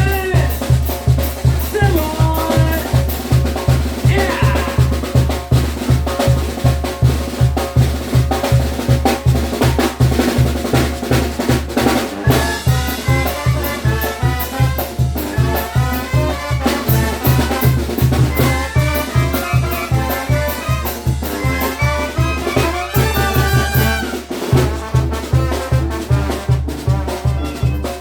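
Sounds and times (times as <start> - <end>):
brass band music: 0.0 - 28.0
heavy bass drum beat: 0.0 - 28.0
snare and drum kit: 0.0 - 28.0.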